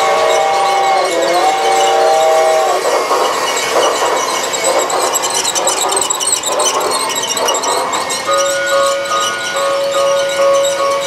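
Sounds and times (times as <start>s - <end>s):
toy steam train hissing: 0.0s - 11.0s.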